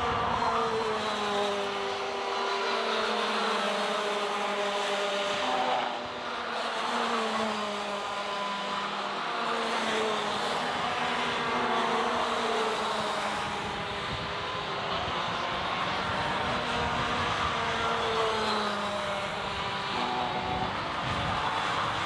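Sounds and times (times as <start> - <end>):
racing kart engines buzzing: 0.0 - 22.0.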